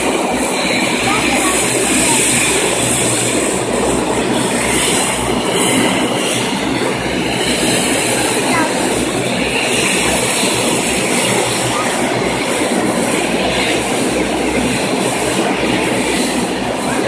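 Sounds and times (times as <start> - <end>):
turboprop airliner engines droning: 0.0 - 17.0.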